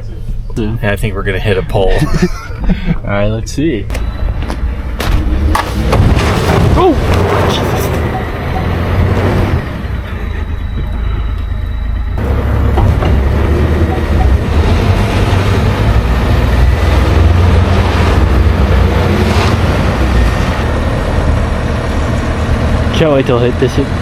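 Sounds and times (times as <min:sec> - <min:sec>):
truck engines running hard: 0:00.0 - 0:24.0.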